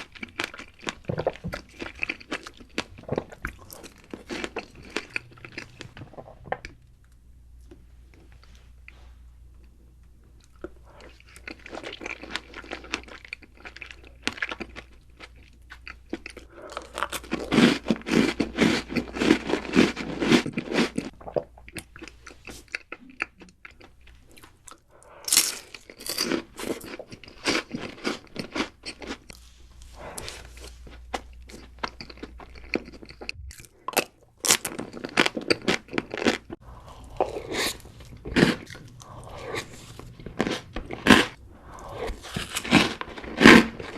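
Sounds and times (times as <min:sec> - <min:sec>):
crunchy chewing of food: 0:00.0 - 0:06.8, 0:09.6 - 0:43.9.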